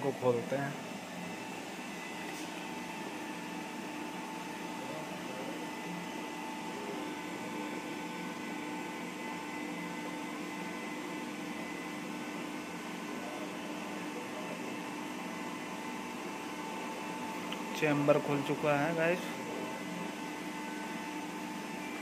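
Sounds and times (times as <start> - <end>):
machine hum with held tones: 0.0 - 22.0.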